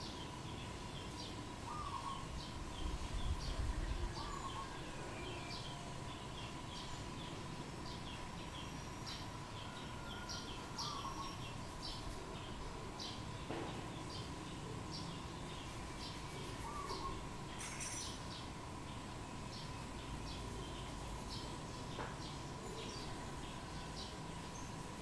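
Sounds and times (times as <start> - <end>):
faint steady hum: 0.0 - 25.0
small birds chirping: 0.0 - 25.0.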